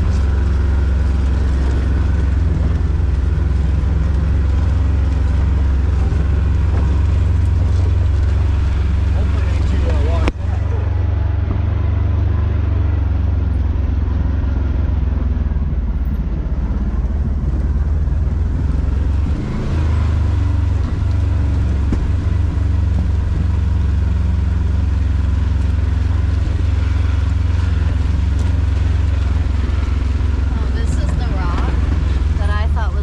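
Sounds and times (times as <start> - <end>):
utv engine droning: 0.0 - 33.0.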